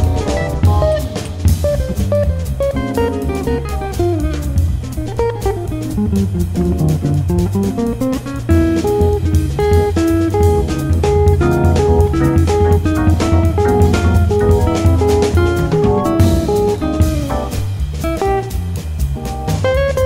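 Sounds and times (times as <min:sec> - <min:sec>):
bass: 0:00.0 - 0:20.0
drum kit steady beat: 0:00.0 - 0:20.0
plucked guitar: 0:00.0 - 0:20.0.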